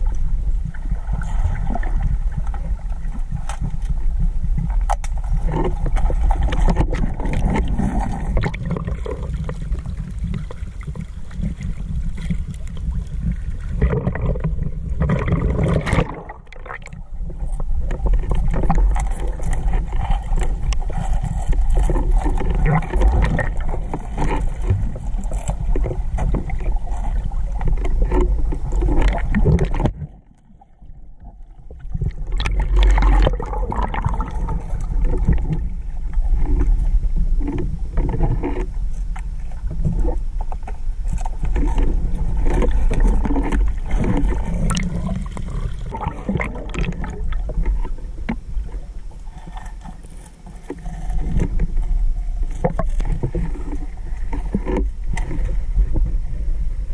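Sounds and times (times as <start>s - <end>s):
constant low rumble: 0.0s - 56.9s
water sloshing and gurgling: 0.0s - 56.9s.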